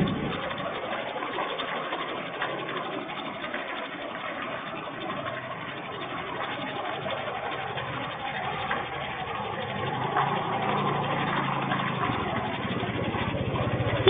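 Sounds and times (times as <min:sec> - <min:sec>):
vehicle engine puttering: 0:00.0 - 0:14.0.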